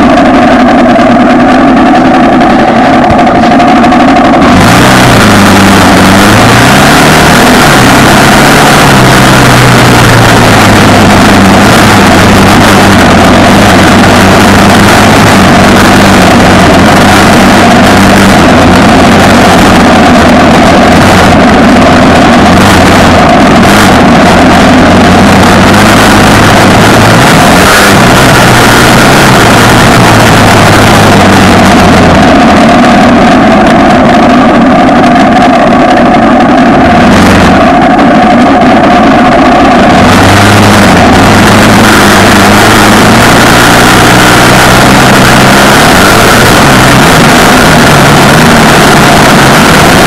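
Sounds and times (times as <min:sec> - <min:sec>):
off-road vehicle engine running: 0:00.0 - 0:50.0.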